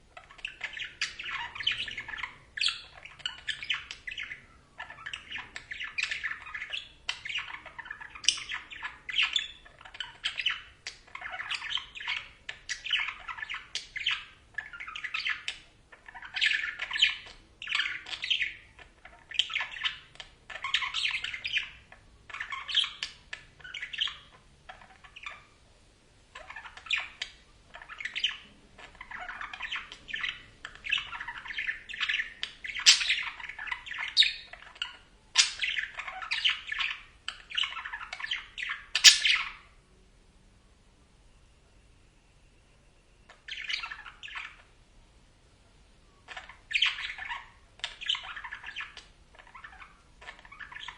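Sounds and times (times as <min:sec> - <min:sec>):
budgerigars chirping: 0:00.1 - 0:25.6, 0:26.3 - 0:39.8, 0:43.3 - 0:44.8, 0:46.2 - 0:50.9.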